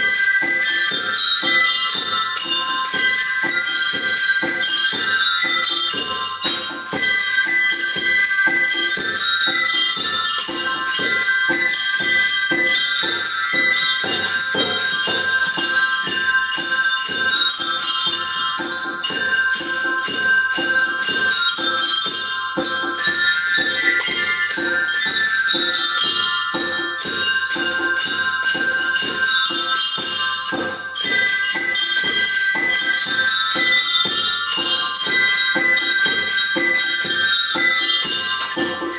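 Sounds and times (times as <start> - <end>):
glockenspiels playing: 0.0 - 38.9.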